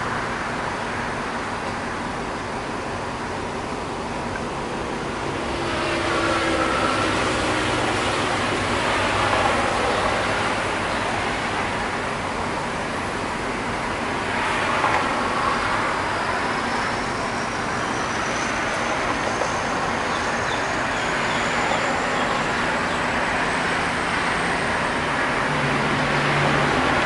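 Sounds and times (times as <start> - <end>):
train wind and wheel noise: 0.0 - 27.0.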